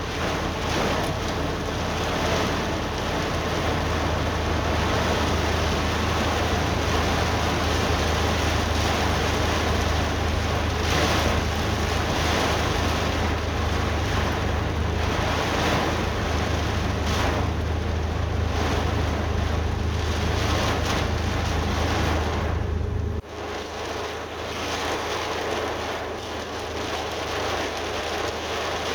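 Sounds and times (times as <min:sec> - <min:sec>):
wind gusting on microphone: 0:00.0 - 0:23.2
heavy rain pouring: 0:00.0 - 0:28.9.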